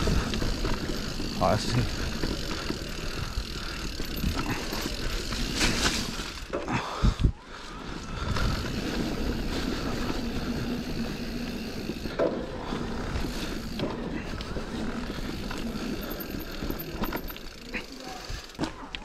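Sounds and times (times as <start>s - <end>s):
bike tyres rolling and rattling: 0.0s - 19.0s.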